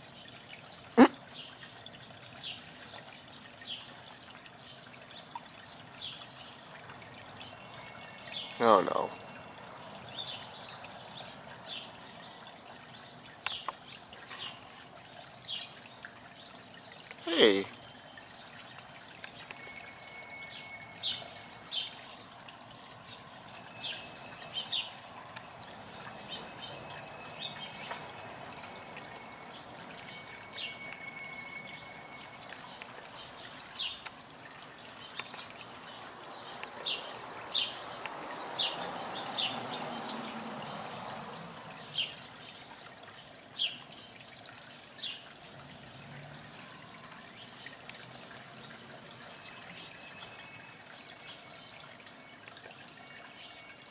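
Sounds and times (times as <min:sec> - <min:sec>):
birds chirping: 0:00.0 - 0:45.3
outdoor background hiss: 0:00.0 - 0:53.9.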